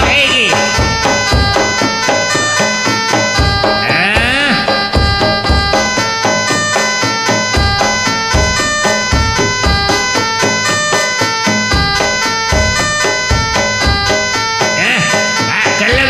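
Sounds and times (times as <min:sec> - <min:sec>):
deep drum beats: 0:00.0 - 0:16.0
metallophone strikes: 0:00.0 - 0:16.0
shawm melody: 0:00.0 - 0:16.0.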